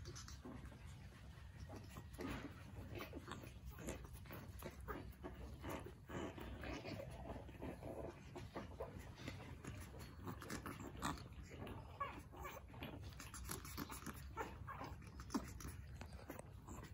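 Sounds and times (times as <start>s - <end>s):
puppies growling and yipping: 0.0s - 16.9s.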